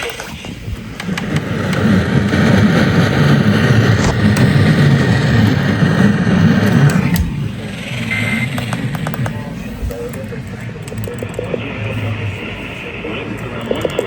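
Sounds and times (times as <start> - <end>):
flickering low rumble: 0.0 - 14.0
radio static hiss: 0.0 - 14.0.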